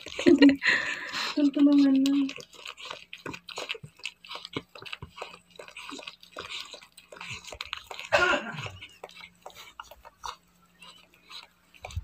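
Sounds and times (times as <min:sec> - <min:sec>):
dog licking wetly: 0:00.0 - 0:12.0.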